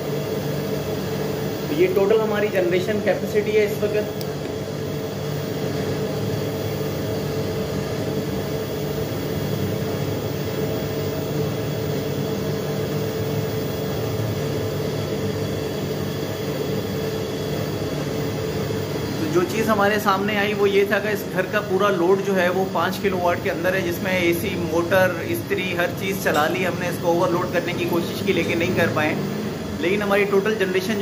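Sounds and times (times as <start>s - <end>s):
electric water pump motor humming: 0.0s - 31.0s.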